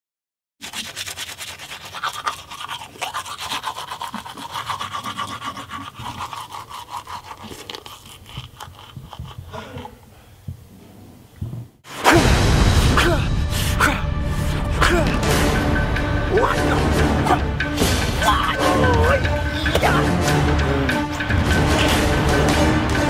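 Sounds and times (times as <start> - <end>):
toothbrush scrubbing teeth: 0.6 - 10.1, 13.6 - 23.0.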